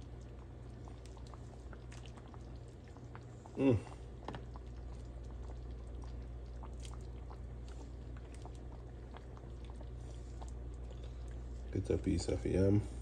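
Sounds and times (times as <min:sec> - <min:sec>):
faint liquid sounds: 0:00.0 - 0:13.0
low steady hum: 0:00.0 - 0:13.0.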